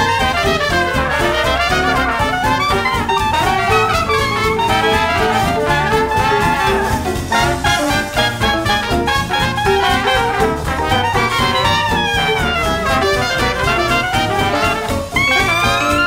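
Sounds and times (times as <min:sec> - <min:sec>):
jazz music with brass: 0:00.0 - 0:16.0
steady bass line: 0:00.0 - 0:16.0.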